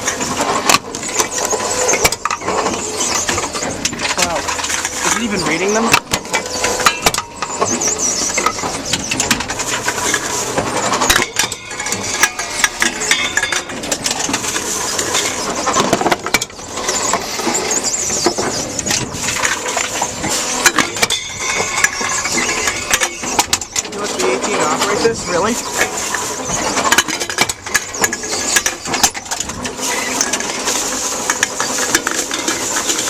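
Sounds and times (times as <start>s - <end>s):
containers knocking and clattering: 0.0s - 33.0s
short wavering squeaks: 1.0s - 14.0s, 14.6s - 31.9s.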